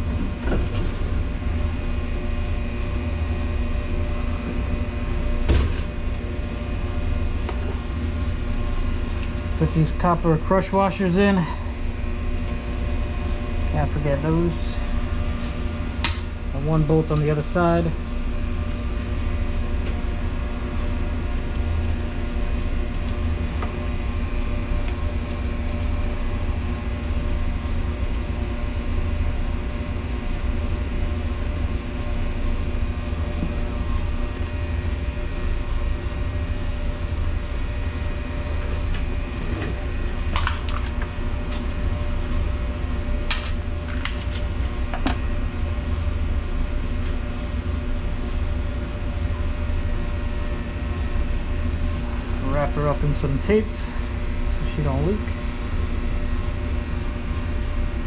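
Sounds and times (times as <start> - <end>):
machine hum and rumble: 0.0 - 58.0.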